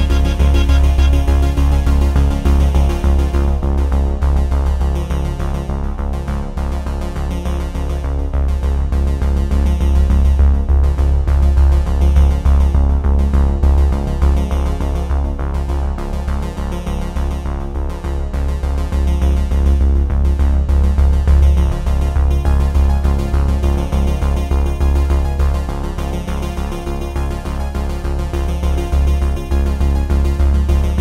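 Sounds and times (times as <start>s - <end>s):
electronic music with heavy bass: 0.0s - 17.2s, 17.9s - 31.0s.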